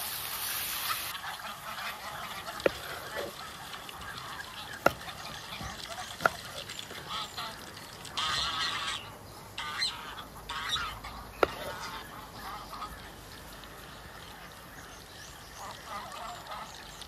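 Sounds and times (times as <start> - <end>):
geese honking: 0.8 - 14.7, 15.5 - 17.0.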